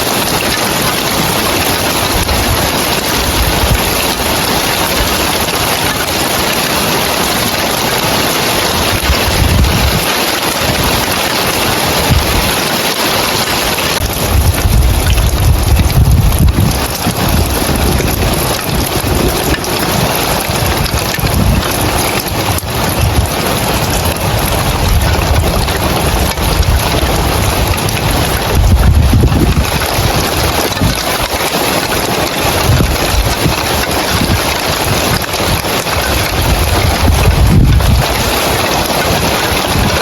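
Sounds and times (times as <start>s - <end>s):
heavy rain on roof tiles: 0.0s - 40.0s
wind buffeting microphone: 0.0s - 40.0s.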